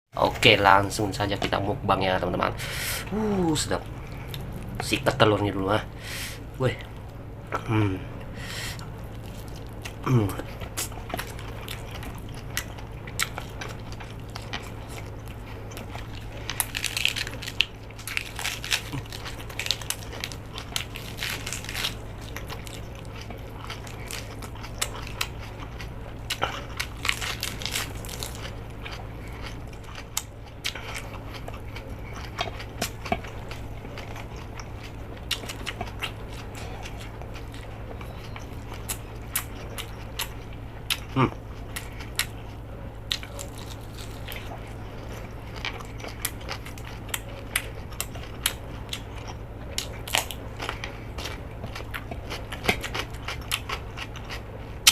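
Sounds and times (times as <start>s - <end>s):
low electrical hum: 0.1s - 54.9s
person chewing crunchy food: 0.2s - 54.9s.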